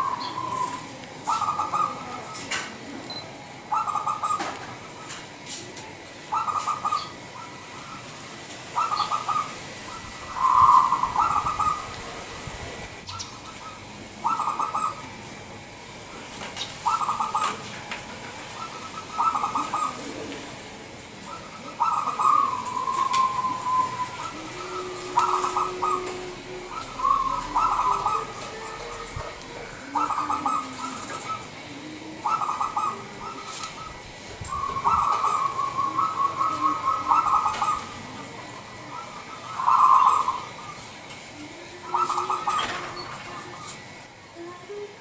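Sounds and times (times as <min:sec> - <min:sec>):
dove cooing: 0:00.0 - 0:45.0.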